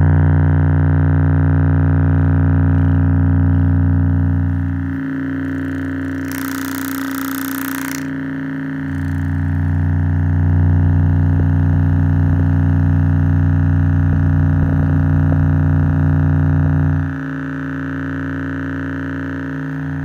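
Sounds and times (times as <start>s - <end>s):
buzzy low-frequency test tone: 0.0s - 20.0s.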